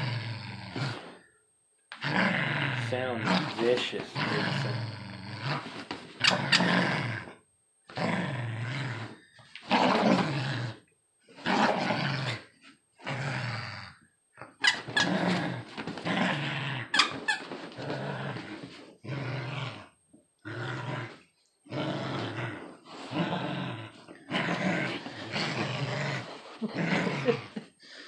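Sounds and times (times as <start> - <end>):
puppy play-growling: 0.0 - 1.3, 1.9 - 28.0.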